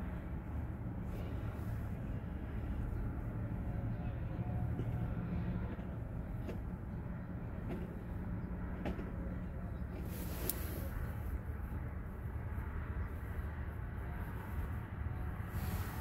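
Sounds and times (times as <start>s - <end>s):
low rumble inside car: 0.0s - 16.0s.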